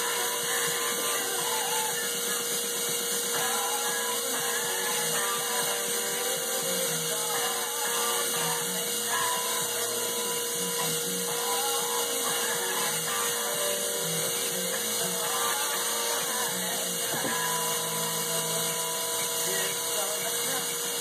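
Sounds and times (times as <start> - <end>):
sander on metal: 0.0 - 21.0.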